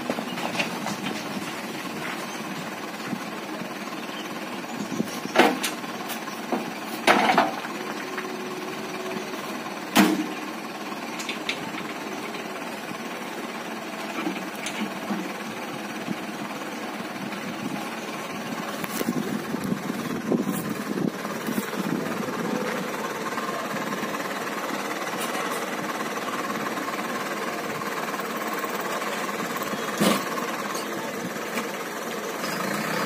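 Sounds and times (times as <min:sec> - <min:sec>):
diesel truck idling: 0:00.0 - 0:33.0.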